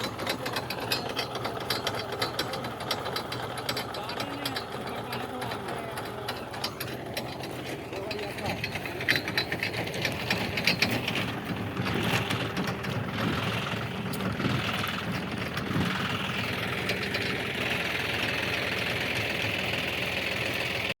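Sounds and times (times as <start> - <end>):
rattling clicks: 0.0 - 18.7
tractor engine running: 0.0 - 21.0.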